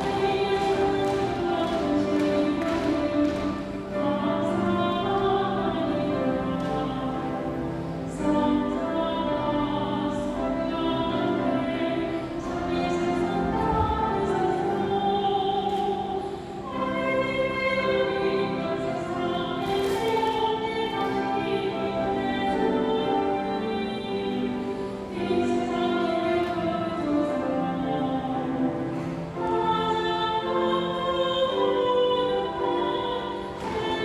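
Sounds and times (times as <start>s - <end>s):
choir singing held notes: 0.0s - 34.0s.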